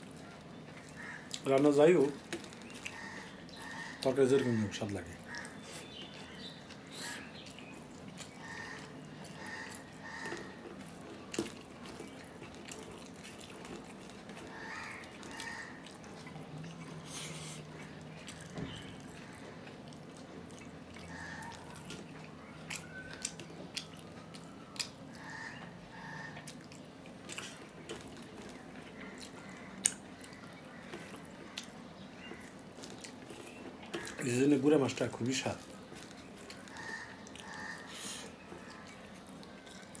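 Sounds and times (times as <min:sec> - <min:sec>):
man chewing with wet mouth sounds: 0:00.0 - 0:40.0
rice squishing between fingers: 0:00.0 - 0:40.0.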